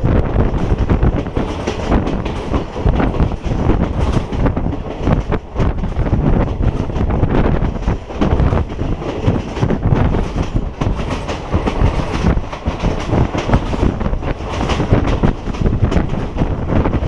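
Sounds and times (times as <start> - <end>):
train rumble: 0.0 - 17.0
train wheels clattering over rails: 0.0 - 17.0.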